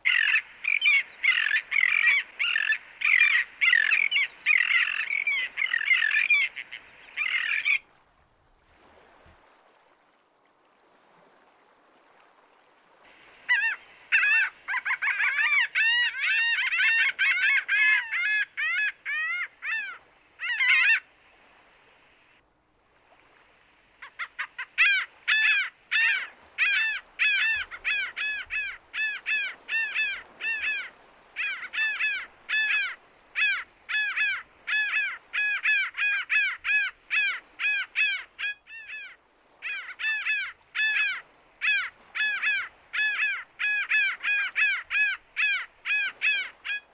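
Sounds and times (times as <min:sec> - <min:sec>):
bird calling harshly: 0:00.0 - 0:07.8, 0:13.2 - 0:22.3, 0:24.0 - 0:46.9.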